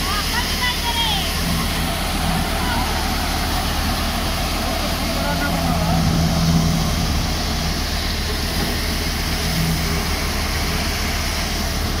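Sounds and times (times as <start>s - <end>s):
machinery hissing: 0.0s - 12.0s
tractor engine humming: 0.0s - 12.0s.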